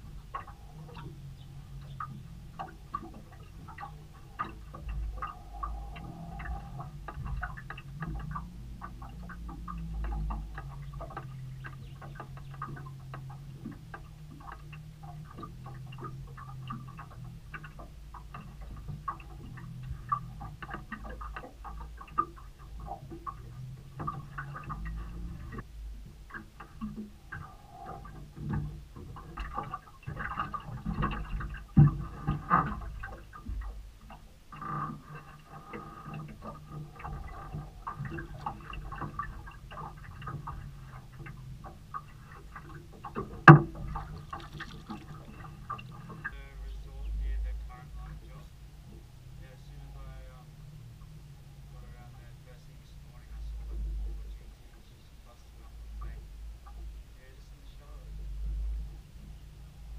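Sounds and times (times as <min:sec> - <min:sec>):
knocks and clicks on boat: 0:00.0 - 0:59.4
low steady hum: 0:00.0 - 0:59.9
water slapping boat hull: 0:00.0 - 0:59.9.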